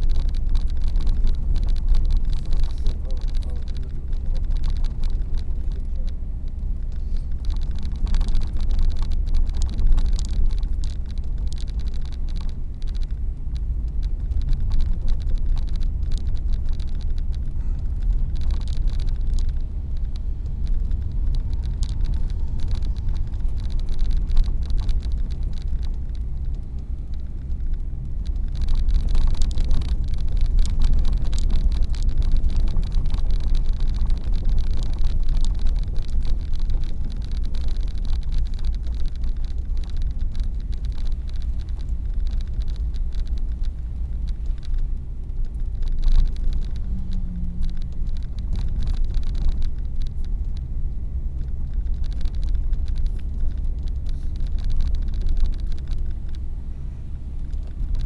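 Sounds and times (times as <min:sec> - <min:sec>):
car engine and tyre rumble: 0:00.0 - 0:58.0
faint ticks: 0:00.0 - 0:58.0.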